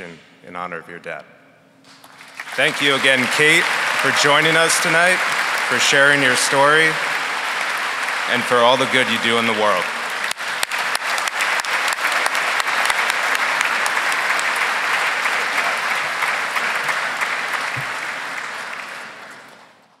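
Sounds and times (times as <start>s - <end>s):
audience applauding: 1.9s - 20.0s.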